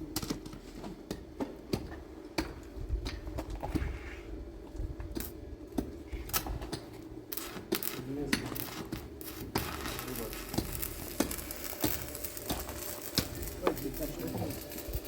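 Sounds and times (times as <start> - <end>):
steady hum: 2.0 - 15.0.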